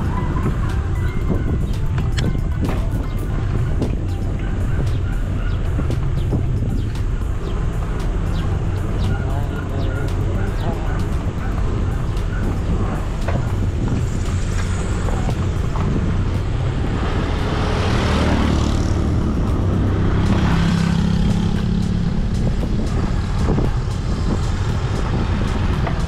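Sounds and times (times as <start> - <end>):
motor vehicle passing: 0.0 - 26.0
wind rumble on microphone: 0.0 - 26.0.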